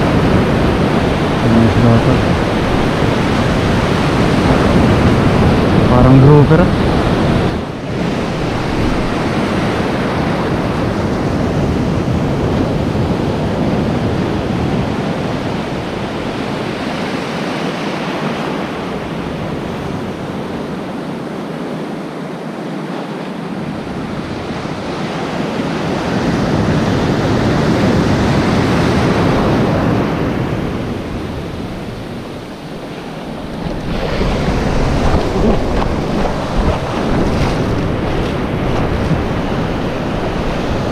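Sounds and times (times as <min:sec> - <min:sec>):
surf washing over reef: 0:00.0 - 0:40.9.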